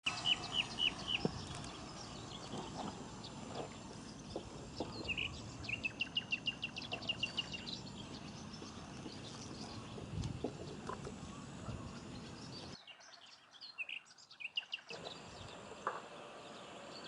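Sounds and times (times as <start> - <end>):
low outdoor background noise: 0.0 - 17.0
bird chirping and trilling: 0.1 - 15.7.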